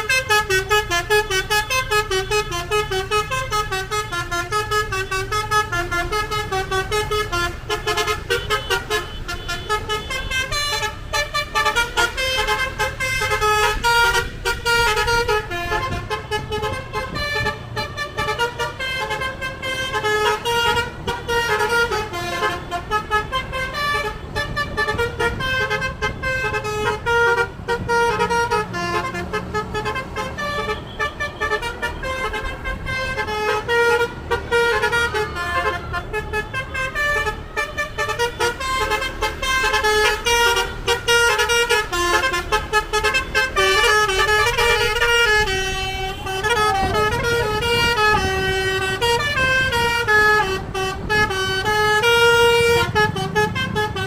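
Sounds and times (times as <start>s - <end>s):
bus melody horn playing a tune: 0.0s - 54.0s.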